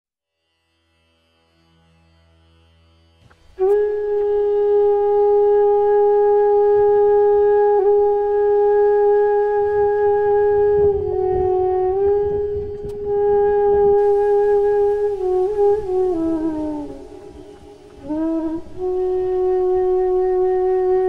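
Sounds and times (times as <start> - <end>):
flute-like held note: 3.3 - 21.0.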